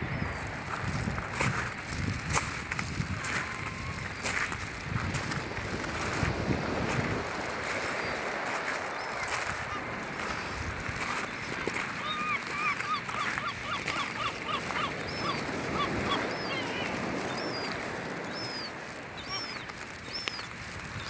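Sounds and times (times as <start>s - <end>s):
gulls calling: 3.2s - 4.6s, 5.2s - 21.0s.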